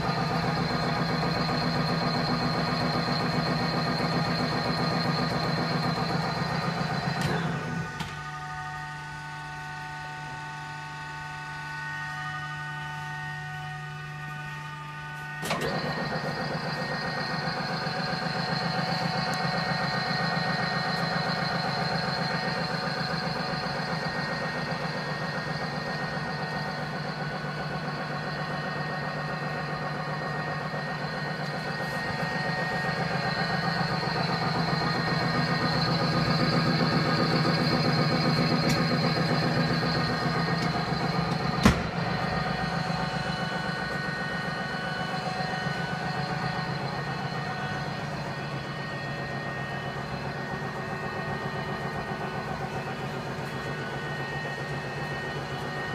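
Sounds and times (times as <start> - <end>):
machine humming and pulsing: 0.0 - 55.9.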